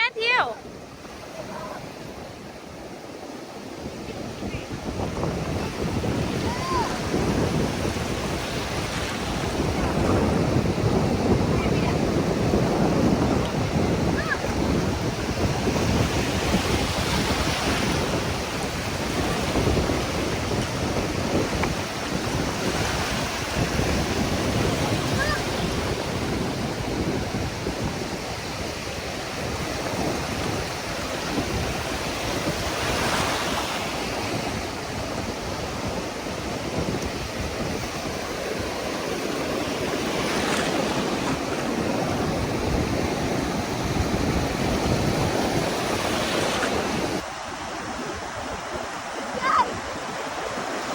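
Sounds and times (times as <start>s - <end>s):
ocean waves crashing: 0.0s - 50.9s
wind on microphone: 0.0s - 50.9s.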